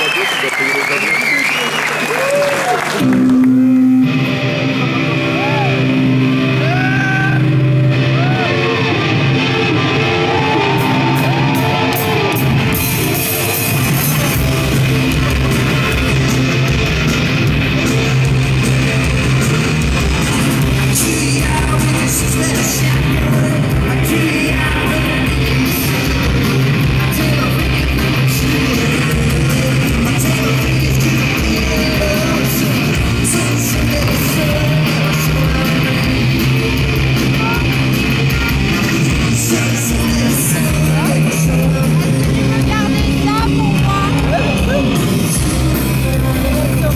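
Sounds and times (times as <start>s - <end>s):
rock band playing live: 1.8s - 46.9s.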